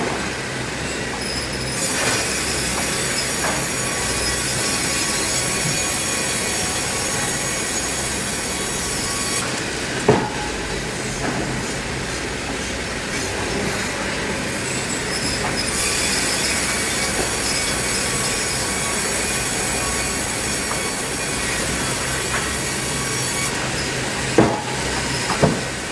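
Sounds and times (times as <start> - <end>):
sawmill saw cutting timber: 0.0 - 25.9.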